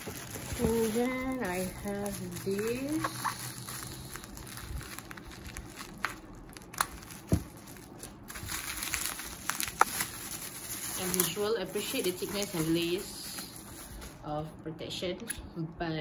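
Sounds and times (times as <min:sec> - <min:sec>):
bubble wrap crinkling: 0:00.0 - 0:14.5.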